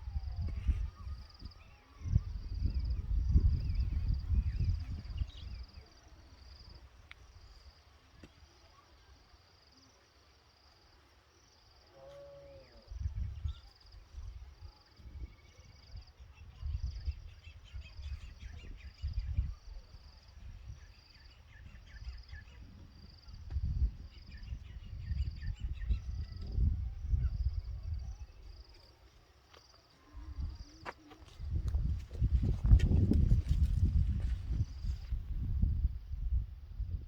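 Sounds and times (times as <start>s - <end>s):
insect chirping: 0.0s - 35.9s.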